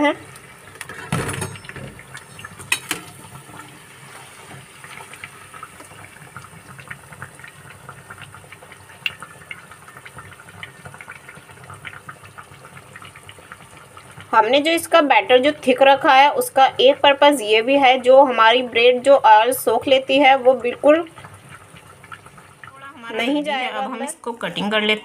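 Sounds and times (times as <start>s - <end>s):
hot oil sizzling in a frying pan: 0.0s - 24.2s.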